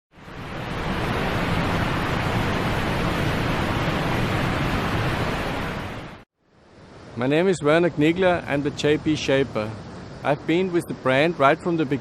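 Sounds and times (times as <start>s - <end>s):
wind over open sea: 0.1s - 12.0s
rushing water: 0.2s - 12.0s.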